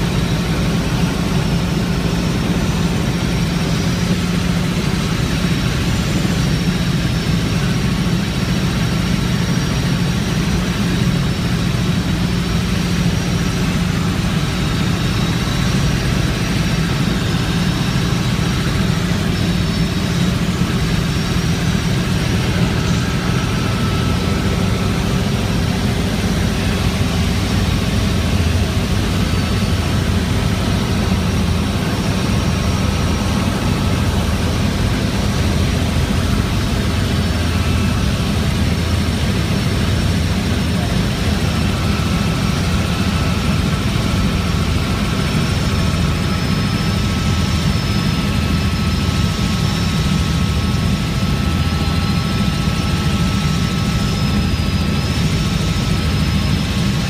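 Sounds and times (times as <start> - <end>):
faint high whine: 0.0 - 57.0
helicopter engine and rotor drone: 0.0 - 57.0.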